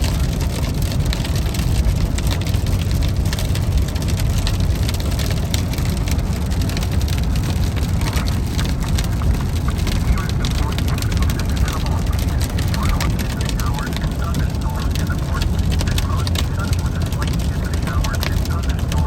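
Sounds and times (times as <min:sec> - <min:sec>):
raindrops ticking on car: 0:00.0 - 0:19.0
road and engine rumble inside car: 0:00.0 - 0:19.0.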